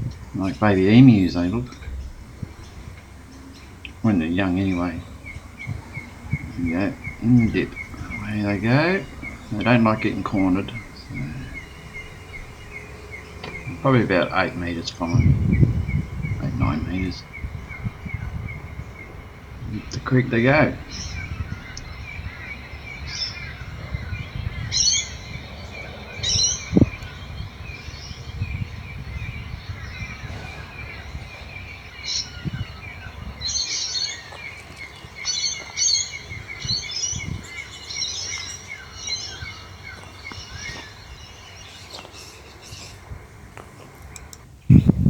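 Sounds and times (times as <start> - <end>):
low rumble: 0.0 - 42.0
birds chirping: 0.0 - 45.0.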